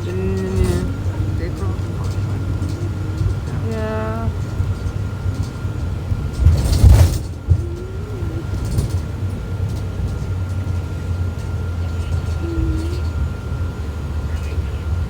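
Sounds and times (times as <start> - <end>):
bus thumps: 0.0 - 15.0
diesel engine droning: 0.0 - 15.0
thin steady whine: 0.0 - 15.0.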